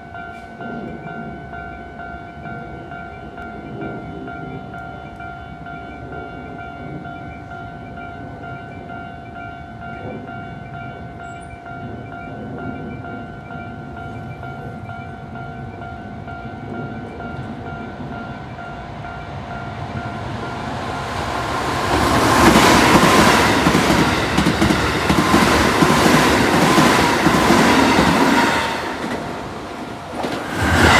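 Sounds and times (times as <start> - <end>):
faint train whine: 0.0 - 30.9
level-crossing warning bell: 0.0 - 30.9
train wheels rumbling on rails: 0.0 - 30.9.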